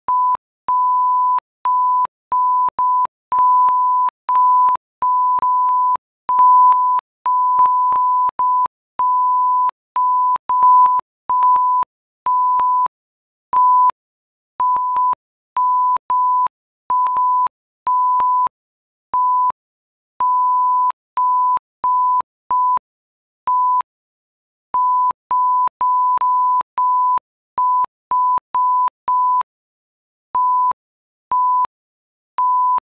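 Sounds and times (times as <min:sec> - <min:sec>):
beep clicks: 0:00.0 - 0:14.0, 0:14.6 - 0:18.6, 0:19.2 - 0:19.6, 0:20.2 - 0:22.9, 0:23.5 - 0:23.9, 0:24.8 - 0:29.5, 0:30.3 - 0:31.7, 0:32.4 - 0:32.9.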